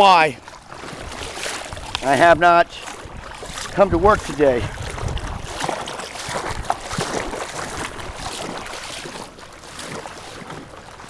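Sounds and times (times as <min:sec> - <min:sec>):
water sloshing around wading legs: 0:00.0 - 0:11.0.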